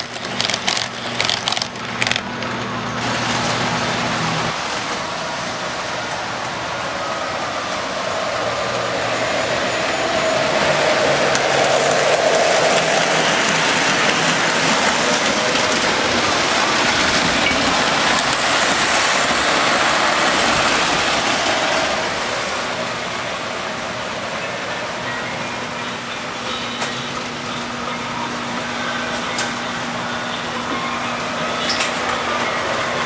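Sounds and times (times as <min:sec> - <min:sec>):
toy trains rolling on track: 0:00.0 - 0:02.2, 0:07.3 - 0:33.0.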